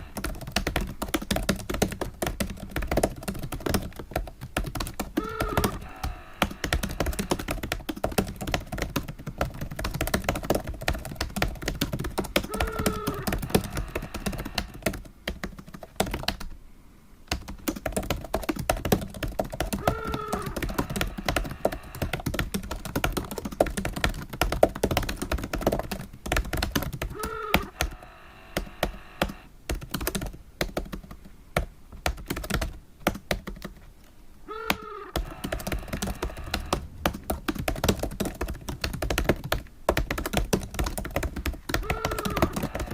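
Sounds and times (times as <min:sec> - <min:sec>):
fast keyboard typing: 0:00.0 - 0:16.5, 0:17.3 - 0:33.8, 0:34.5 - 0:42.9.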